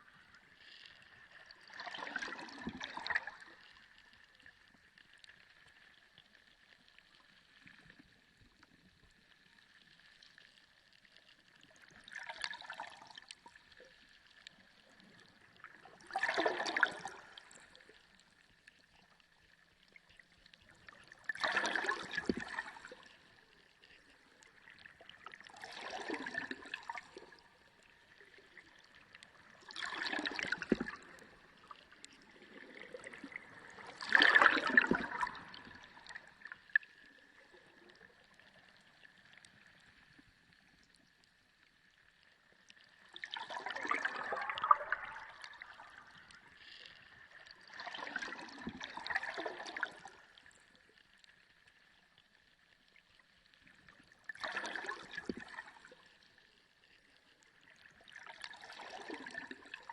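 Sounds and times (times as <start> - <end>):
gurgling sloshing water underwater: 0.0 - 59.9.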